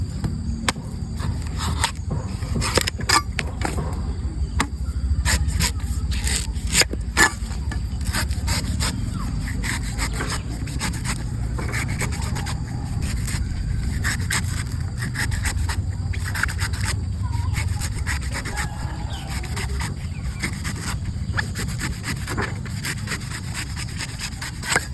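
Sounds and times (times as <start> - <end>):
blade scraping coconut husk: 0.0 - 24.9
continuous low rumble: 0.0 - 24.9.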